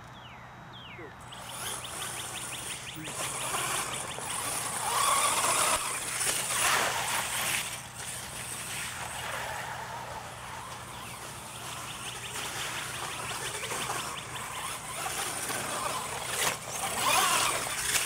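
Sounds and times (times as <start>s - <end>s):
rc truck driving on dirt: 1.2s - 18.0s.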